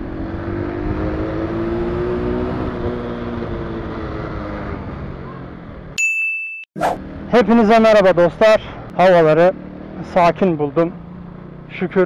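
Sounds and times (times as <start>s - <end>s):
motorcycle engine accelerating: 0.0s - 6.0s, 6.8s - 12.0s.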